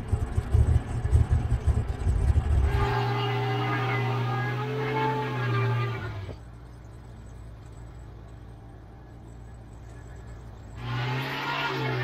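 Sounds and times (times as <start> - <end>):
sawmill engine idling and revving: 0.0 - 8.6, 9.5 - 12.0.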